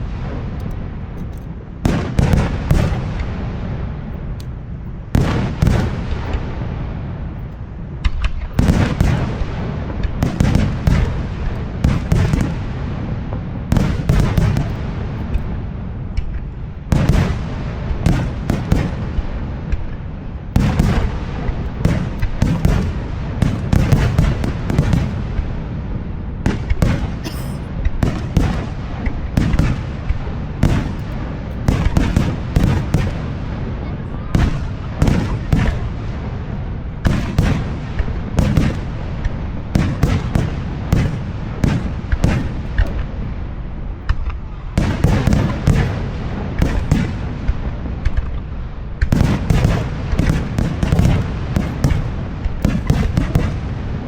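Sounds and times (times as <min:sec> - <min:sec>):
continuous low rumble: 0:00.0 - 0:54.0
fireworks booming and cracking: 0:00.0 - 0:54.0.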